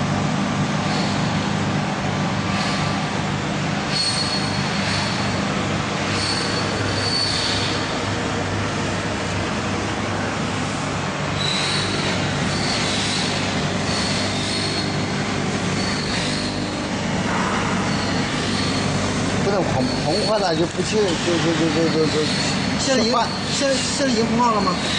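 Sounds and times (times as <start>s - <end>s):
high squealing whine: 0.0s - 24.9s
machine hum: 0.0s - 24.9s.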